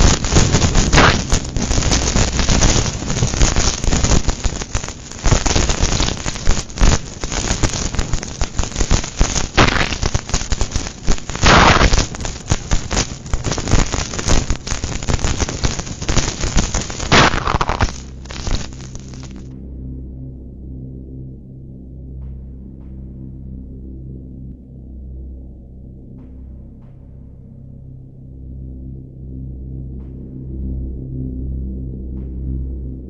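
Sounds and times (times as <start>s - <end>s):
music: 0.0s - 33.0s.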